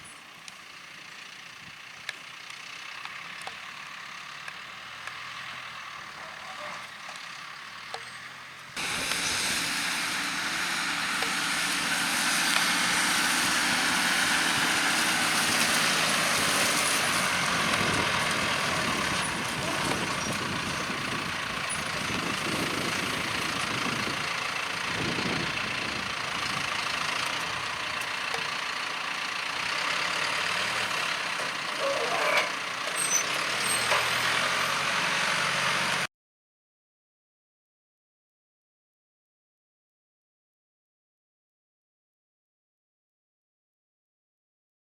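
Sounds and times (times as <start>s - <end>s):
tractor engine running: 0.0s - 36.1s.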